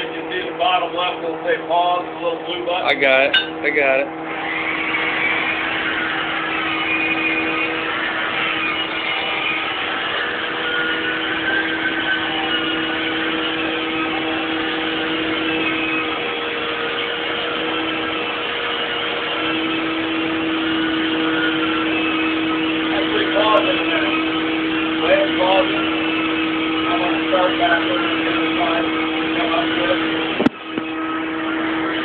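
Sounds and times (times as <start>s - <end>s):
carpet cleaning machine humming: 0.0s - 32.0s
wavering high whine: 0.0s - 32.0s.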